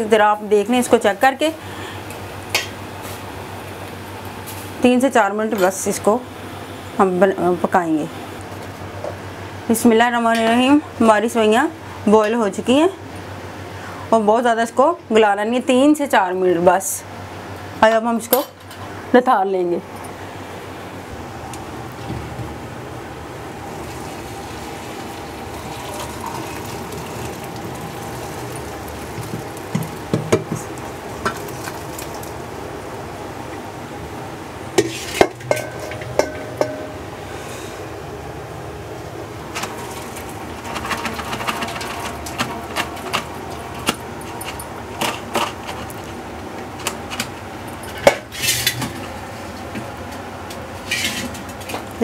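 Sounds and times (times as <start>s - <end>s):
steady background noise: 0.0s - 52.0s.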